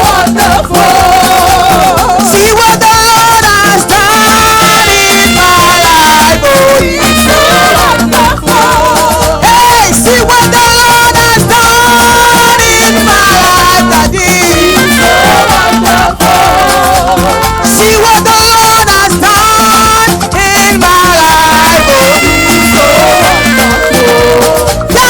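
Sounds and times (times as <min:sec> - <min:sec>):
upbeat church praise music: 0:00.0 - 0:25.0.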